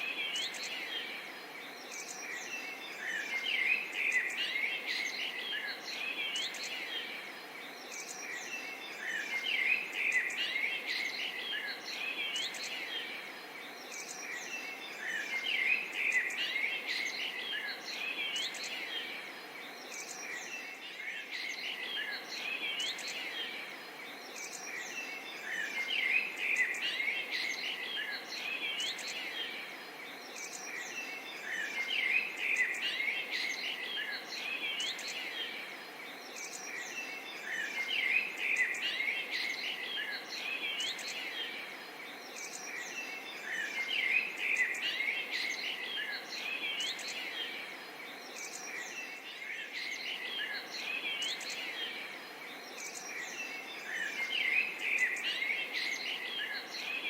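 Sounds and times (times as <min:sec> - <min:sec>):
birds chirping in chorus: 0:00.0 - 0:57.0
steady background hiss: 0:00.0 - 0:57.0.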